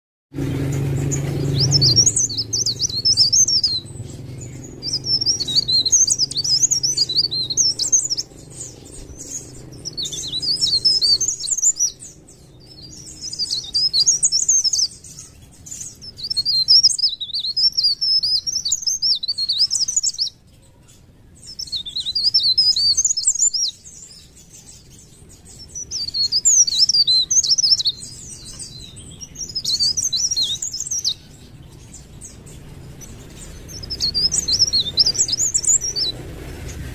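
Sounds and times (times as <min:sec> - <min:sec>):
bird twittering: 0:00.4 - 0:36.9.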